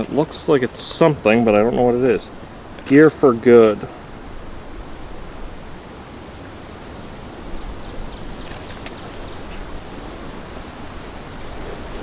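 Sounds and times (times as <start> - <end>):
leaves rustling: 0.0 - 12.0.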